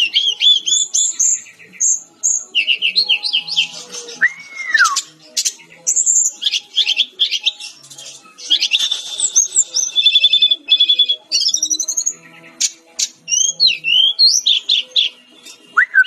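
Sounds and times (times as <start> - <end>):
flycatcher singing: 0.0 - 16.0.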